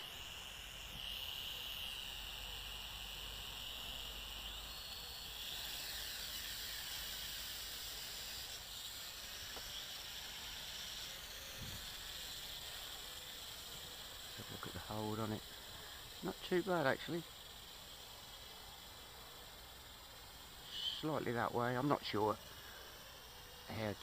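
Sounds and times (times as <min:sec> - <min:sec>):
toy quadcopter propellers whining: 0:00.0 - 0:24.0.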